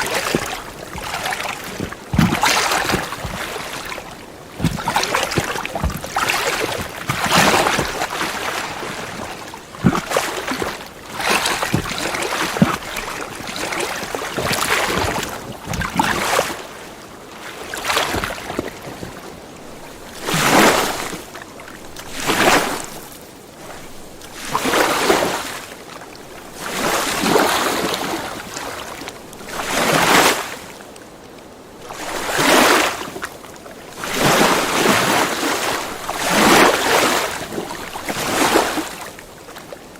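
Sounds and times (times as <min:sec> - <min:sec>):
water slapping: 0:00.0 - 0:30.8, 0:31.7 - 0:39.9
lake waves lapping at shore: 0:00.0 - 0:39.9.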